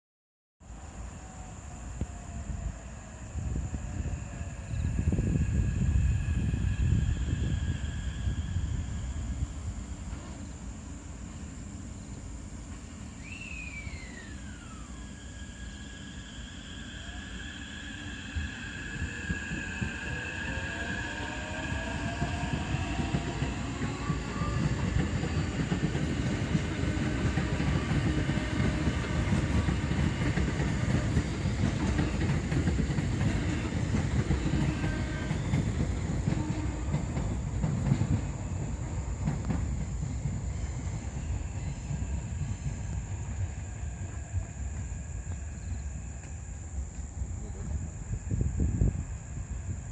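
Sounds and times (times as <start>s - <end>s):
train wheels rumbling on rails: 1.2s - 49.9s.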